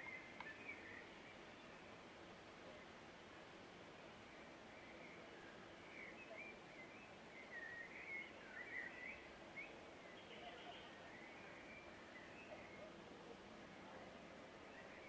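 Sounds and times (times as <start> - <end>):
faint distant birdsong: 0.0 - 15.0
low outdoor ambience: 0.0 - 15.0.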